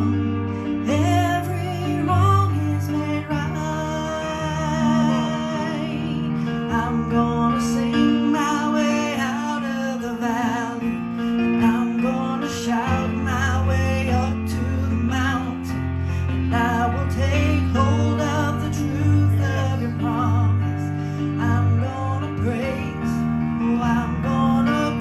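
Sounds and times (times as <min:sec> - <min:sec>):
church music on electronic keyboard: 0:00.0 - 0:25.0.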